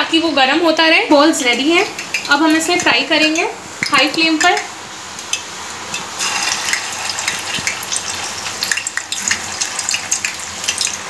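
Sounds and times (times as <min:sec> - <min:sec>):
food deep-frying in oil: 0:00.2 - 0:11.0.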